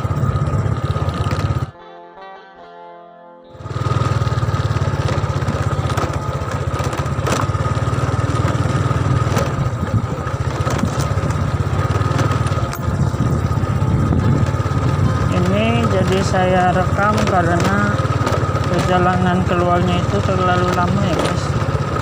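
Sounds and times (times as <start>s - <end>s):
motorcycle engine running: 0.0s - 1.8s, 3.5s - 22.0s.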